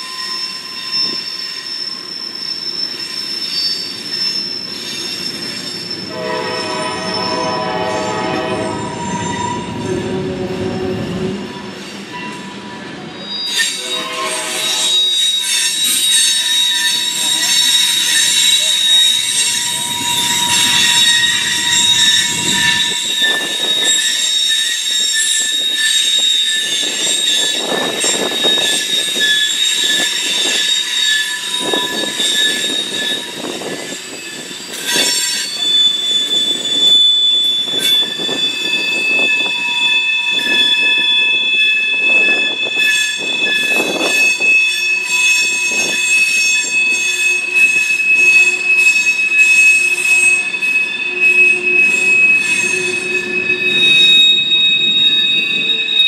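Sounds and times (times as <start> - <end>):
rumble and clatter of train cars: 0.0 - 56.0
train wheels squealing: 0.0 - 56.0.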